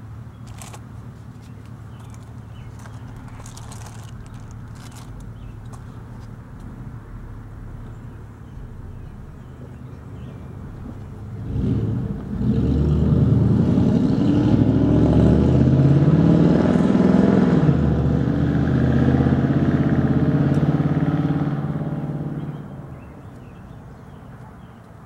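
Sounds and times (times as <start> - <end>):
motor vehicle engine running: 0.0 - 16.2, 16.9 - 25.0.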